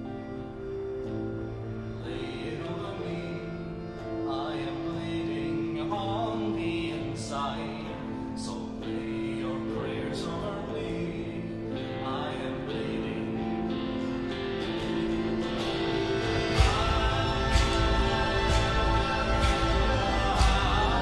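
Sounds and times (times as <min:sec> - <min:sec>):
folk band playing droning chords: 0:00.0 - 0:21.0
guitar: 0:00.0 - 0:21.0
wavering melody line: 0:00.0 - 0:21.0.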